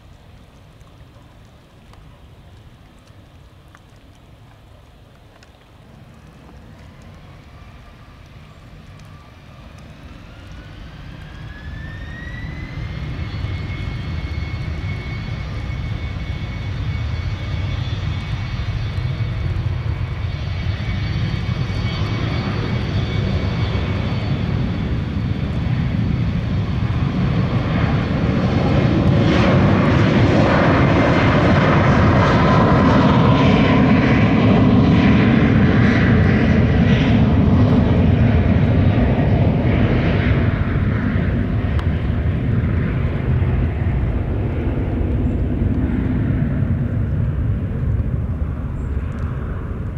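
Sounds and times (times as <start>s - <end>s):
jet engine whine: 0.0s - 49.9s.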